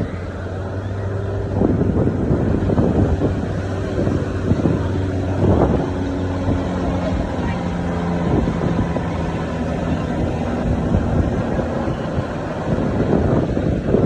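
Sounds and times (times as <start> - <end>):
low engine drone: 0.0 - 14.0
wind buffeting microphone: 0.0 - 14.0.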